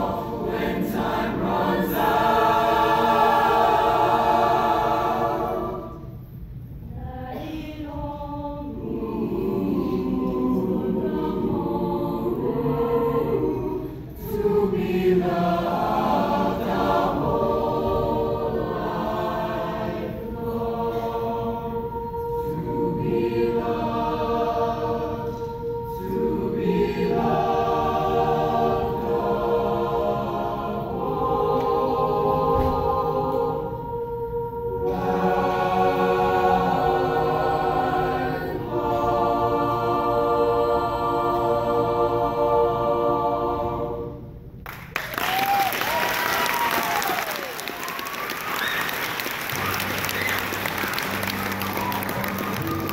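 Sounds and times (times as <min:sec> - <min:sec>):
choir singing in harmony: 0:00.0 - 0:45.2, 0:45.9 - 0:52.9.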